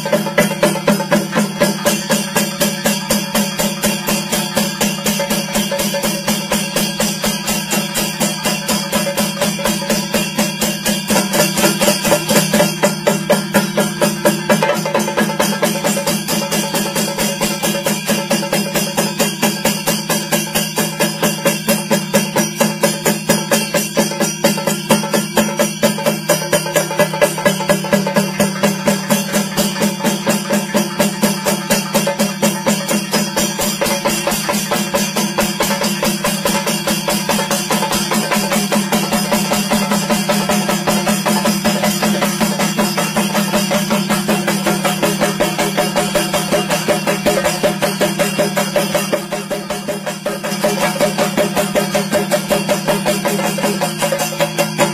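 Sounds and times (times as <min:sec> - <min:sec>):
drums played with sticks: 0:00.0 - 0:54.9.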